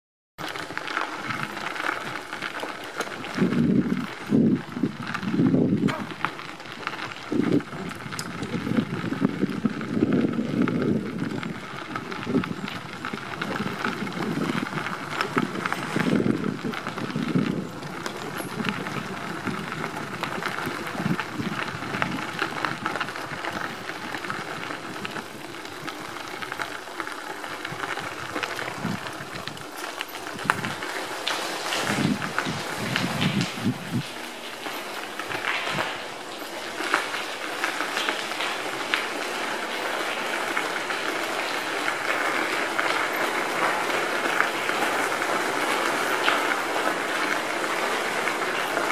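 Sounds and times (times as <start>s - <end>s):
bicycle tyres crunching on gravel: 0.4s - 48.9s.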